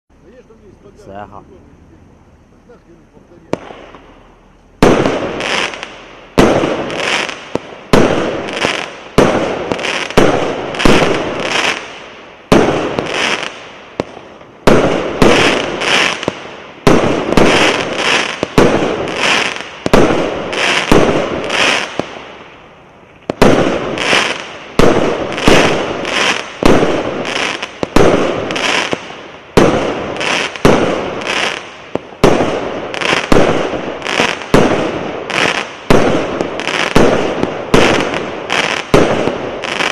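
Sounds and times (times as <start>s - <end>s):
fireworks cake firing: 2.7s - 22.4s, 23.1s - 39.9s.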